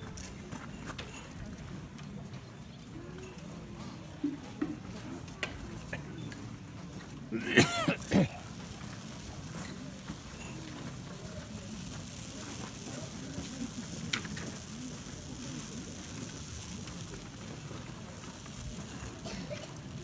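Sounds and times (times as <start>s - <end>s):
crowd murmuring: 0.0s - 20.0s
steady hiss: 3.2s - 20.0s.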